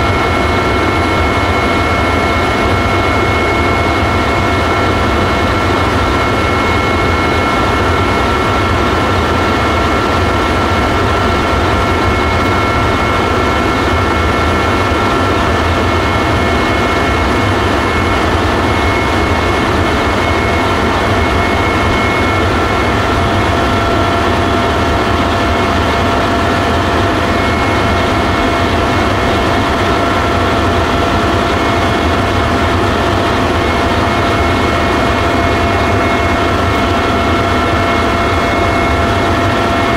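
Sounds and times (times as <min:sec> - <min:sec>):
helicopter engine and rotor drone: 0:00.0 - 0:39.9
high whining tones: 0:00.0 - 0:39.9.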